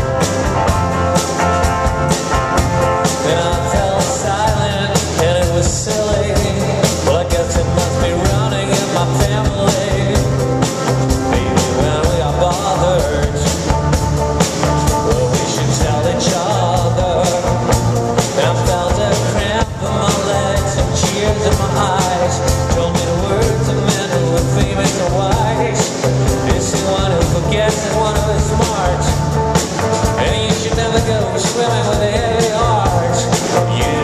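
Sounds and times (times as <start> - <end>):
bass guitar line: 0.0 - 34.0
drum kit beat: 0.0 - 34.0
electric guitar melody: 0.0 - 34.0
live rock and roll band: 0.0 - 34.0.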